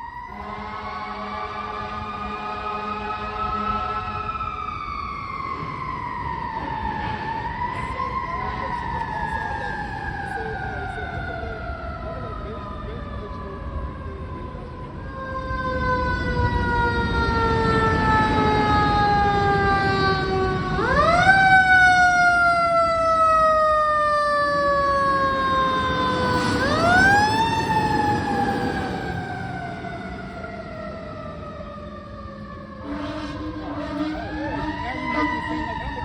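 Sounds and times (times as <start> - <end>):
mechanical siren wailing: 0.0 - 36.0
diesel engine rumbling: 0.3 - 36.0.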